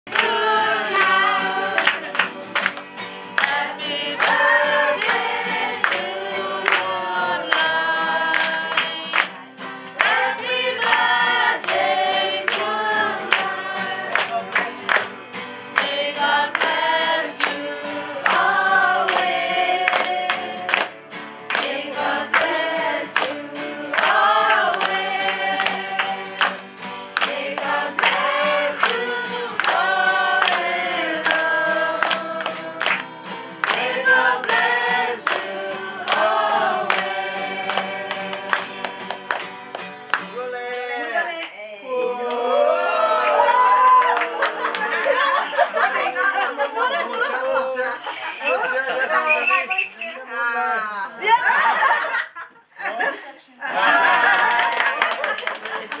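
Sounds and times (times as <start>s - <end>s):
adults and children singing: 0.0s - 9.3s, 9.9s - 15.1s, 15.7s - 39.7s, 41.9s - 49.8s, 53.6s - 56.0s
hand clapping: 0.1s - 40.4s, 43.8s - 45.9s, 46.6s - 47.4s, 54.1s - 56.0s.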